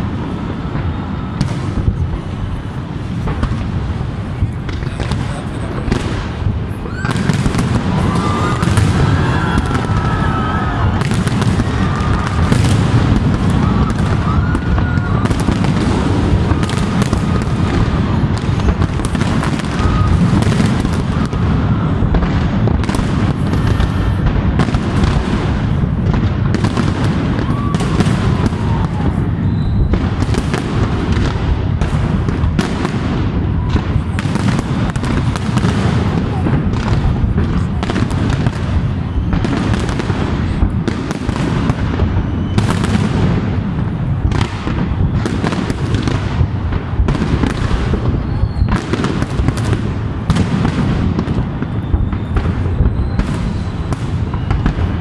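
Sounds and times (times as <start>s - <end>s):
fireworks cracking and booming: 0.0s - 55.0s.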